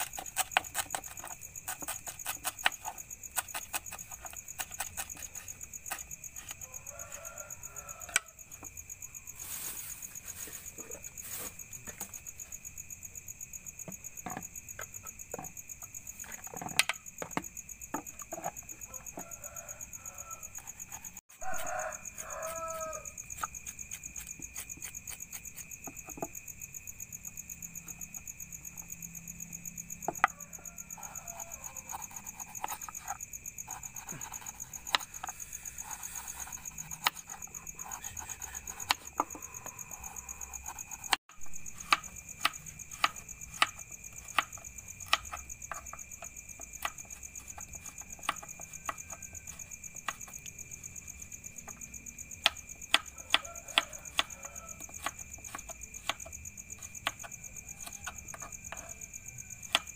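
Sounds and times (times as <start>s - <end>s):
night insects chorus: 0.0s - 59.9s.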